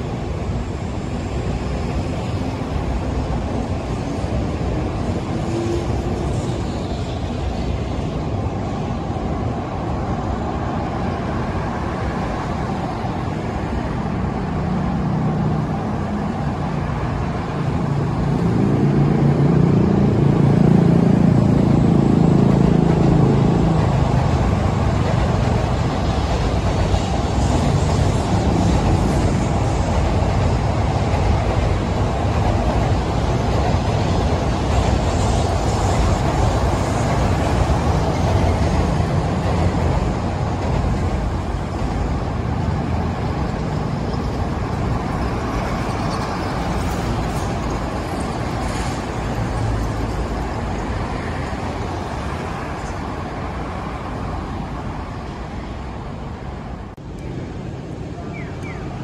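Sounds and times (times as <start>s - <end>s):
road traffic: 0.0s - 59.0s
train rumble overhead: 0.0s - 59.0s.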